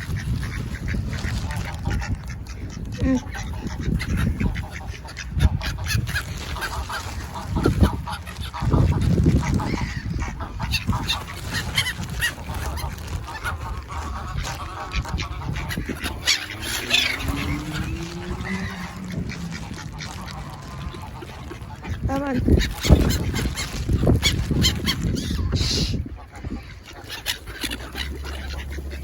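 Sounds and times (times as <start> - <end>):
geese honking: 0.0 - 29.0
waterfowl calling: 0.0 - 29.0.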